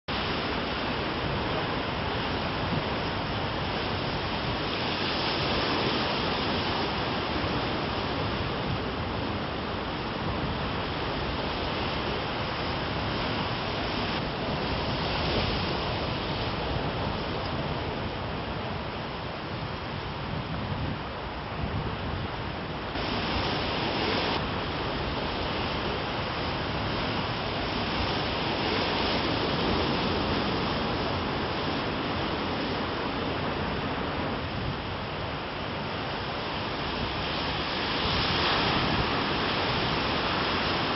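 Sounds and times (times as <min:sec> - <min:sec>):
ocean surf: 0:00.1 - 0:40.9
wind on microphone: 0:00.1 - 0:40.9.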